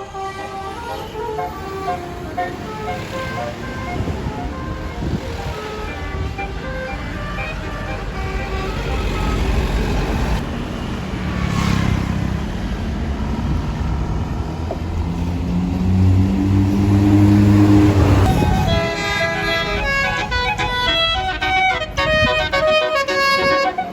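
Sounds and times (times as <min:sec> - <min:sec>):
bus diesel engine droning: 0:00.0 - 0:23.9.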